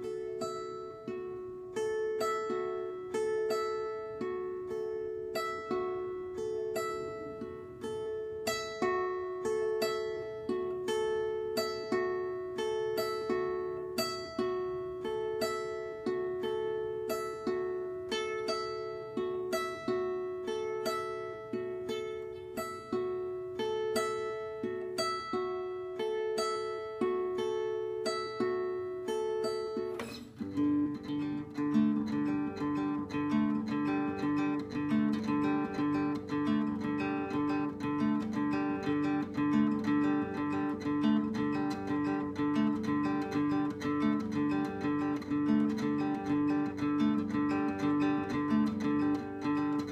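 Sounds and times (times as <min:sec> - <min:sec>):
acoustic guitar playing: 0:00.0 - 0:49.9.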